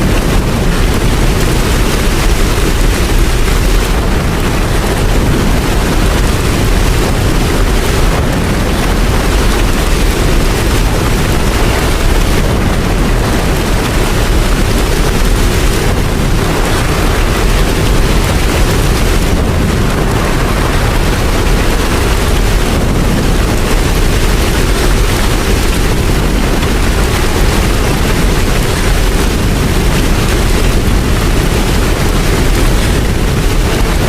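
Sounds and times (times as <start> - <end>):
deep rumble: 0.0 - 34.0
heavy rain falling: 0.0 - 34.0.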